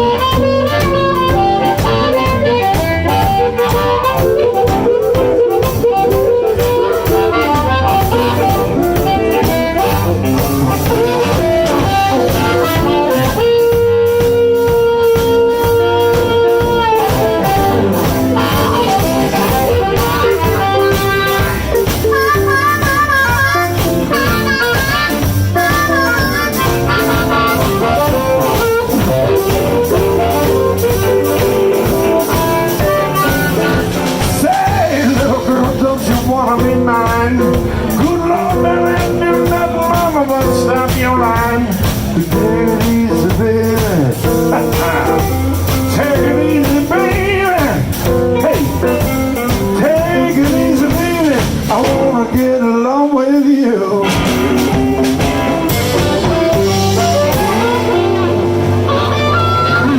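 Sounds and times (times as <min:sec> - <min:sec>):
blues band playing: 0:00.0 - 0:59.9.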